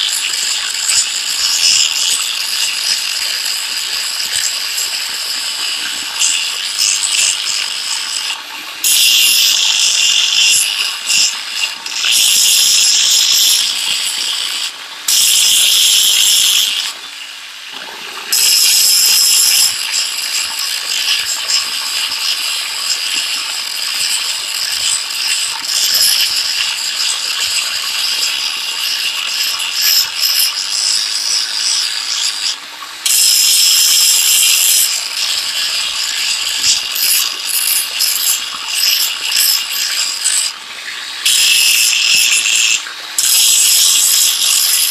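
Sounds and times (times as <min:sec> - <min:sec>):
angle grinder grinding steel: 0:00.0 - 0:17.0, 0:18.3 - 0:40.6, 0:41.2 - 0:44.9.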